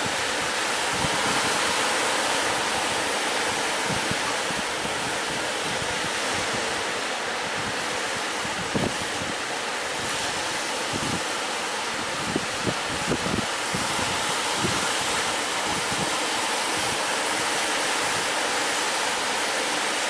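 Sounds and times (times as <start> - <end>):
wind buffeting microphone: 0.0 - 19.4
sea waves rushing: 0.0 - 20.0
wind: 0.0 - 20.0.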